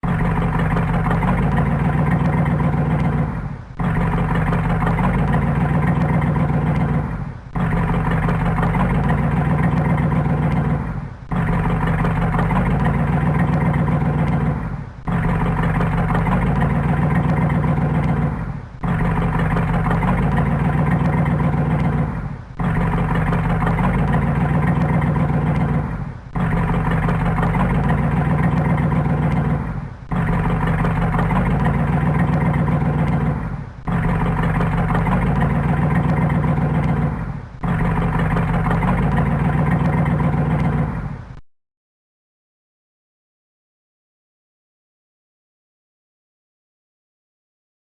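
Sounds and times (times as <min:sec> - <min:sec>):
car engine running: 0:00.0 - 0:41.4.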